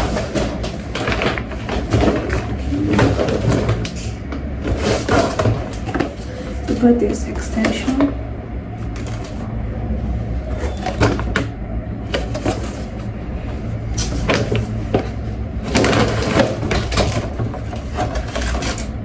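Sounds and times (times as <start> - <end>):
packaging rustling: 0.0 - 8.0, 10.4 - 19.0
steady low hum: 0.0 - 19.0.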